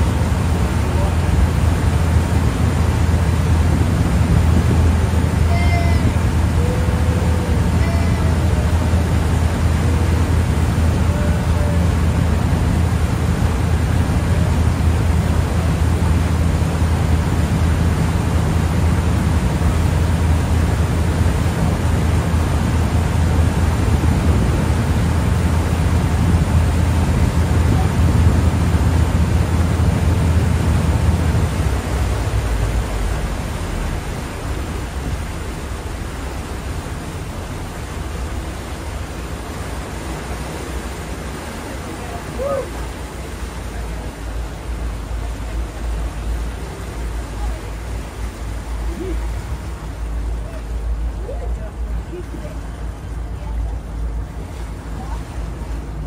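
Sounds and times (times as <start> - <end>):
ferry engine drone: 0.0 - 56.0
water rushing: 0.0 - 56.0
wind: 0.0 - 56.0.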